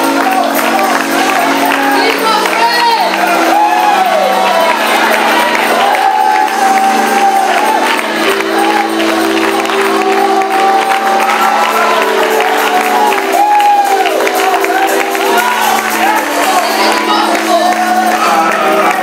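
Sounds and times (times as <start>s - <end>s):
congregation clapping along: 0.0s - 19.0s
gospel worship music: 0.0s - 19.0s.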